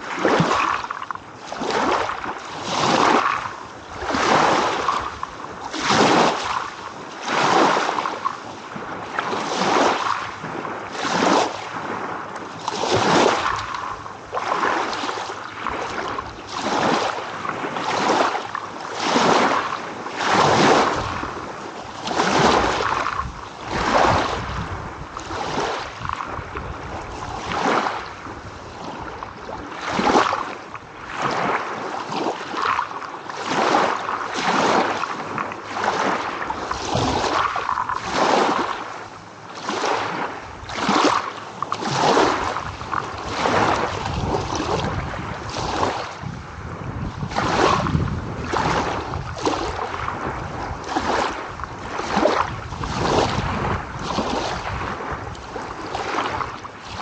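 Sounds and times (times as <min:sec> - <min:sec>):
small ocean waves: 0:00.0 - 0:57.0.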